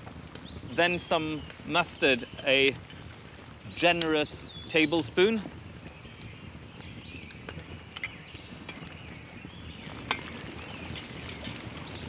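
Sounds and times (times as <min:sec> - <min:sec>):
campfire pops: 0:00.0 - 0:12.0
low outdoor background: 0:00.0 - 0:12.0
birds chirping faintly: 0:00.4 - 0:12.0.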